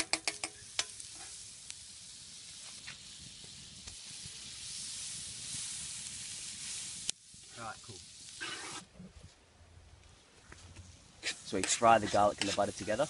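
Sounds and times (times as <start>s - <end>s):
butter sizzling in a pan: 0.0s - 8.9s, 11.2s - 13.0s.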